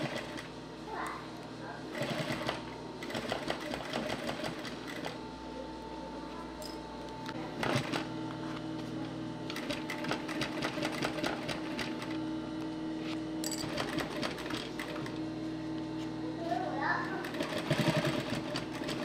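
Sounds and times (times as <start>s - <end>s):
sewing machine motor hum: 0.0s - 19.0s.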